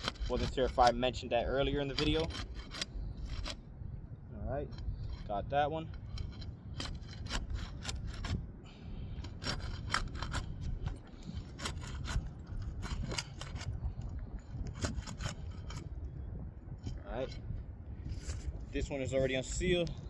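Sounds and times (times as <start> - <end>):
tool scraping shingle sealant: 0.0 - 3.6, 4.7 - 16.0, 18.1 - 19.7
wind rumble on microphone: 0.0 - 20.0.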